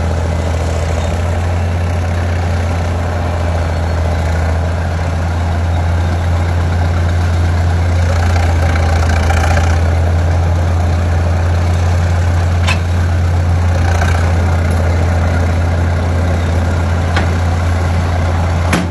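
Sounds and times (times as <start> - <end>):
loader engine humming: 0.0 - 18.9.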